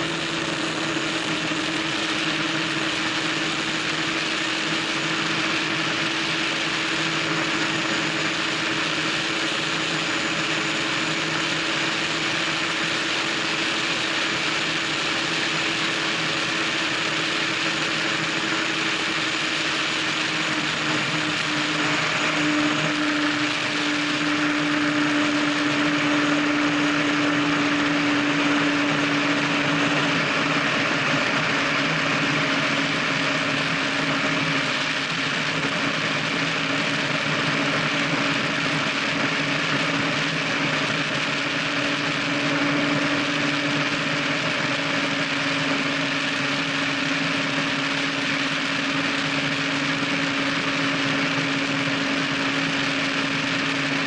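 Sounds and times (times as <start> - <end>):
powerboat engine drone: 0.0 - 54.0.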